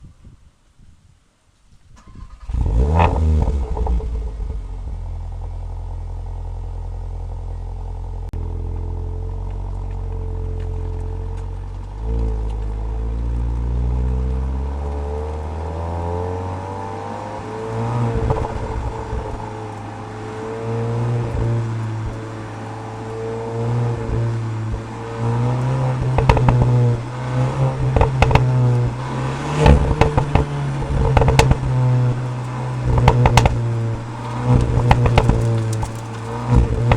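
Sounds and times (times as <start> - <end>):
exhaust clicks and cracks: 1.9 - 36.9
car engine idling and revving: 2.0 - 36.9.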